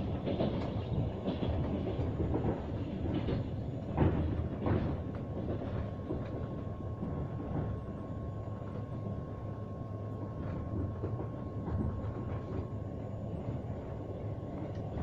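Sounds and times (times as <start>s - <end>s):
thin steady whine: 0.0s - 15.0s
train rumbling on rails: 0.0s - 15.0s.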